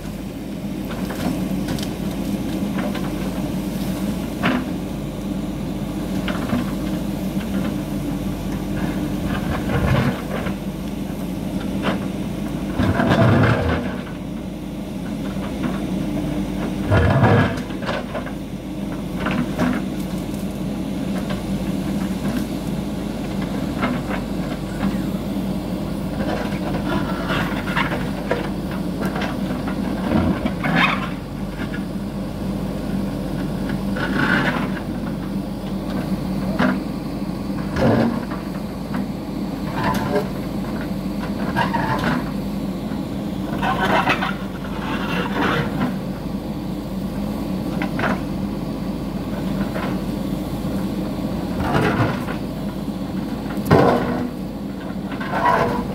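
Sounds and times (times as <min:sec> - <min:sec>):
diesel engine under load: 0:00.0 - 0:55.9.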